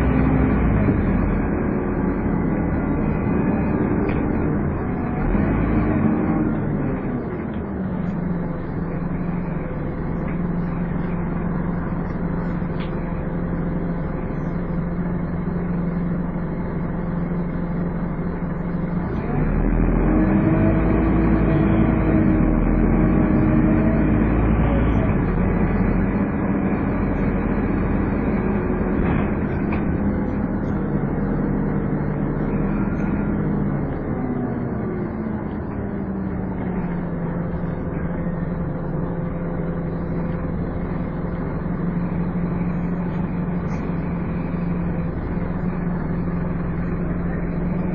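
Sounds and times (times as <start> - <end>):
bus diesel engine whining: 0.0 - 47.9.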